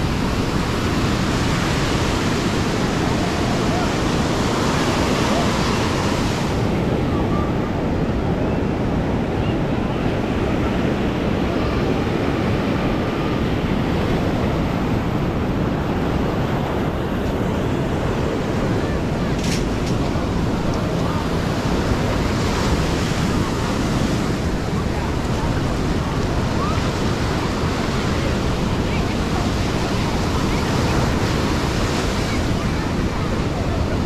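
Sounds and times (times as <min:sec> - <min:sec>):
ocean surf on sandy beach: 0:00.0 - 0:34.0
wind buffeting the microphone: 0:00.0 - 0:34.0.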